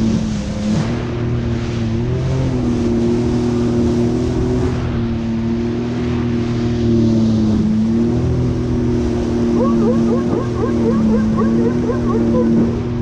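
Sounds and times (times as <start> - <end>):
water rushing and splashing: 0.0 - 13.0
watercraft engine droning: 0.0 - 13.0.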